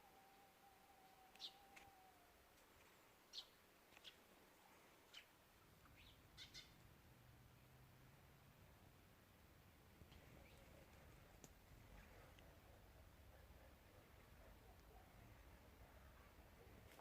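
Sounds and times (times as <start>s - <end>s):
faint bird chirps: 0.0s - 6.9s, 10.0s - 17.0s
faint low hum: 0.0s - 17.0s.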